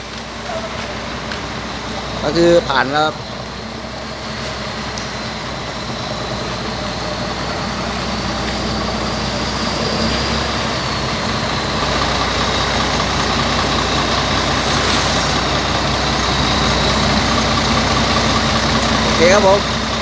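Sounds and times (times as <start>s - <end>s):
diesel bus engine running: 0.0s - 20.0s.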